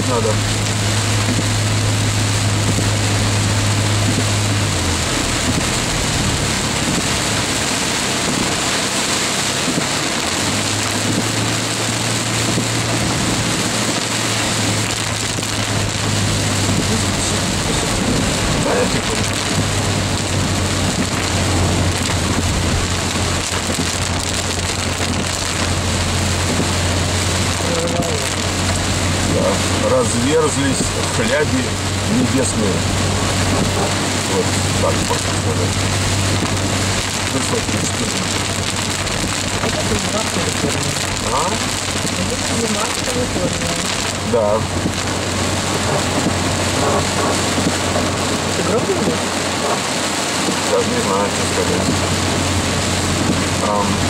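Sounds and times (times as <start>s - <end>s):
heavy rain on car roof: 0.0s - 54.0s
low car hum: 0.0s - 54.0s
tyres on wet road: 0.0s - 54.0s.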